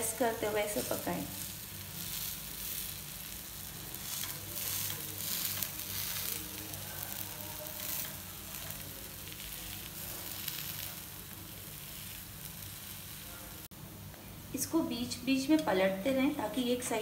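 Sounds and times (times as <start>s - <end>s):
fritters sizzling in oil: 0.0s - 13.7s.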